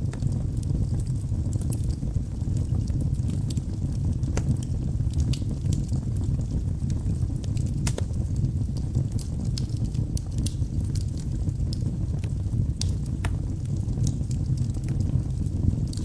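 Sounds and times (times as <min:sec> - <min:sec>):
fire crackles and pops: 0:00.0 - 0:16.0
low rumble of wood fire: 0:00.0 - 0:16.0.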